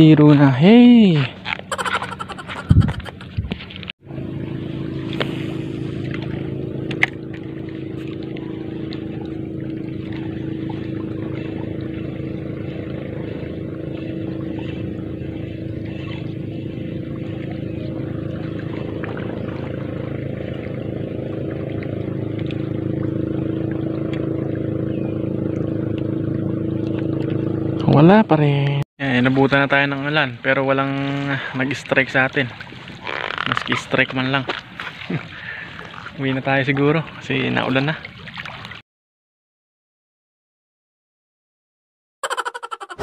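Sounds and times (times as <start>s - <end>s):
motorboat engine running: 0.0s - 38.6s.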